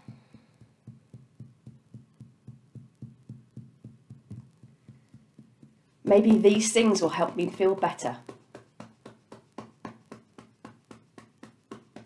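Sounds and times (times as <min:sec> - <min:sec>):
fingertips tapping on skin: 0:00.0 - 0:12.0.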